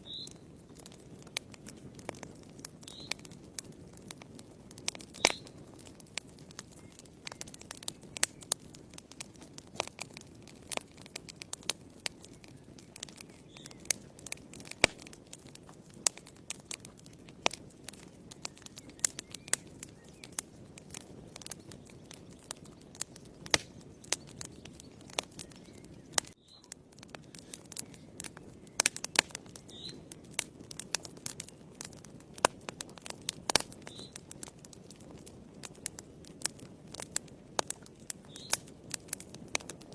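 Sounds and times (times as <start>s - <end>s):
fire crackling and popping: 0.0s - 39.9s
low rush of flames: 0.0s - 39.9s.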